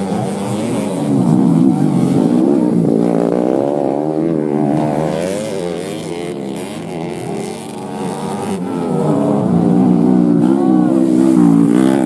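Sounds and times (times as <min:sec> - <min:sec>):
motorcycles revving hard: 0:00.0 - 0:12.0.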